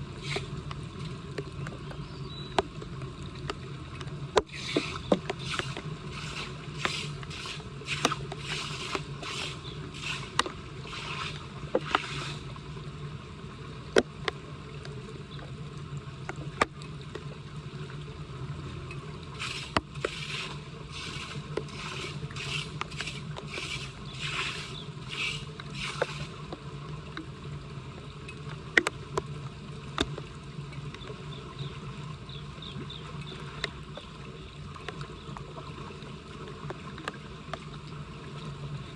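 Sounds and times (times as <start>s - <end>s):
flowing water rushing: 0.0s - 38.9s
water splashing and sloshing: 0.0s - 38.9s.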